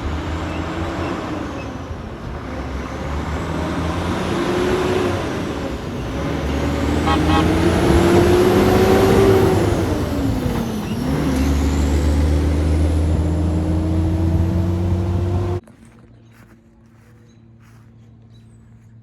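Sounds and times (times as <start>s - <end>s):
diesel truck engine accelerating: 0.0s - 15.6s
high engine whine: 0.0s - 19.0s.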